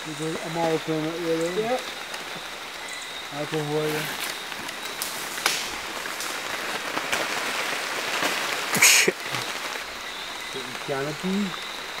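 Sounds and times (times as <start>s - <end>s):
brush of foliage: 0.0s - 12.0s
leaves and undergrowth crackling: 0.0s - 12.0s.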